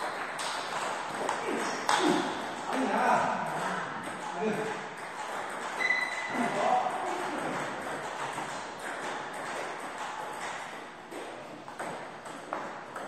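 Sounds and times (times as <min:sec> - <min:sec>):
table tennis balls tapping: 0:00.0 - 0:13.0.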